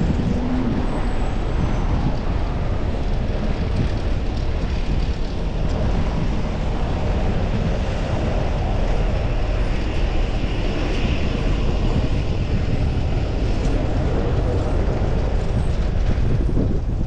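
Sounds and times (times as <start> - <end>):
road noise: 0.0 - 17.0
wind rumble on microphone: 0.0 - 17.0.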